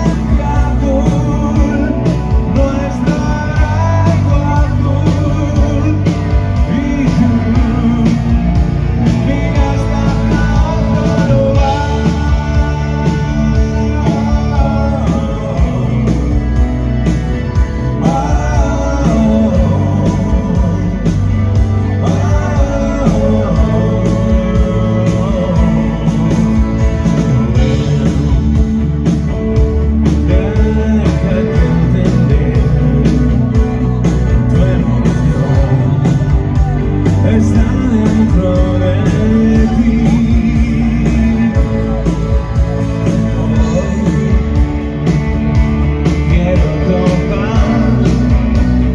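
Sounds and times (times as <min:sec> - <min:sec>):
electric guitar: 0:00.0 - 0:48.9
rock band playing: 0:00.0 - 0:48.9.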